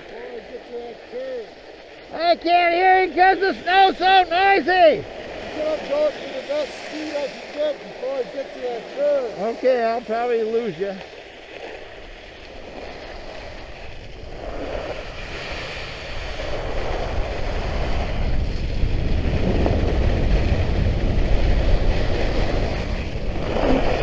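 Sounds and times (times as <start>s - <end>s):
skis scraping over snow: 0.0s - 24.0s
wind rumbling on microphone: 0.0s - 24.0s.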